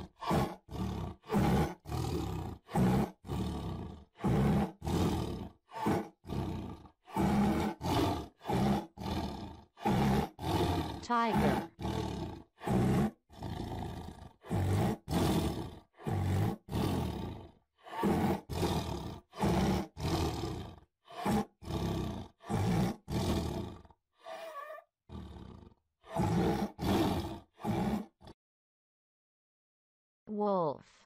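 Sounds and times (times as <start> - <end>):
tiger roaring: 0.0 - 28.4.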